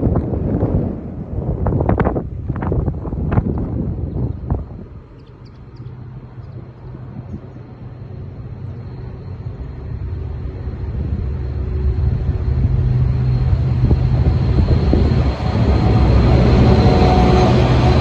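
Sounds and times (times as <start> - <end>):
distant diesel train rumble: 0.0 - 18.0
wind gust on microphone: 0.0 - 18.0.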